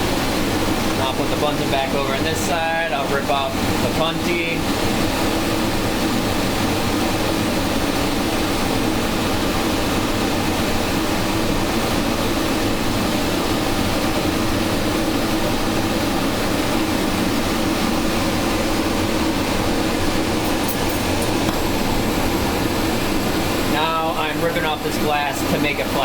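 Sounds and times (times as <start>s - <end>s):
hand torch burning: 0.0s - 26.0s.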